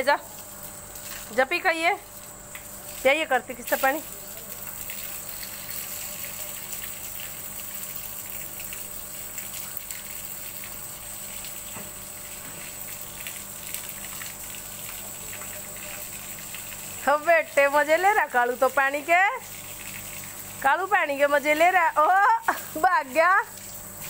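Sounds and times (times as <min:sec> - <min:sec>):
water from hose splashing: 0:00.0 - 0:24.0.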